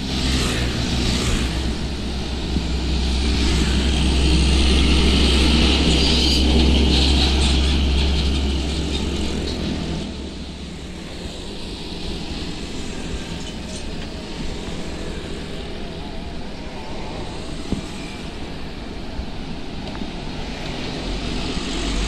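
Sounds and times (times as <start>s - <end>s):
diesel truck engines rumbling: 0.0s - 22.0s
tyre and road noise: 0.0s - 22.0s.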